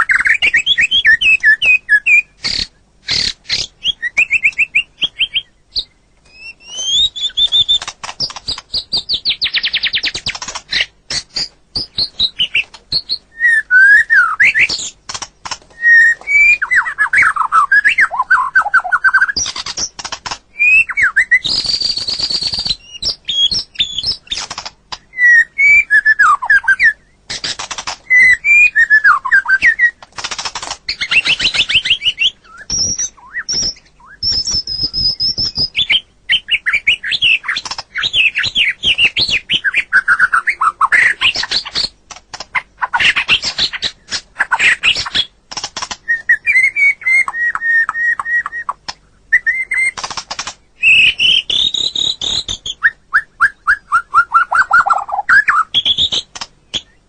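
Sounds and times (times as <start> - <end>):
songbird singing whistles and trills: 0.0 - 30.0, 30.9 - 45.3, 46.0 - 57.0.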